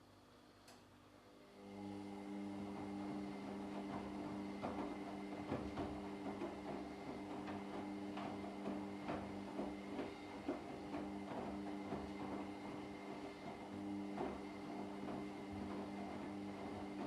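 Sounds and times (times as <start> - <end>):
washing machine motor hum: 1.5 - 17.0
laundry tumbling knocks and clicks: 2.7 - 17.0.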